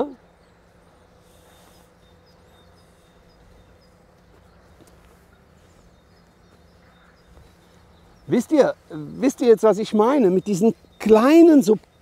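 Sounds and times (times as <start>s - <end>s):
low steady hum: 0.0s - 12.0s
small bird chirping: 0.0s - 12.0s.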